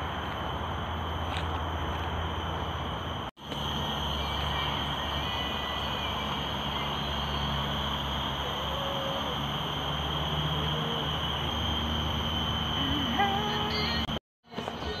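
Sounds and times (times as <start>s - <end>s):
high insect drone: 0.0s - 14.2s
distant traffic hum: 0.0s - 15.0s.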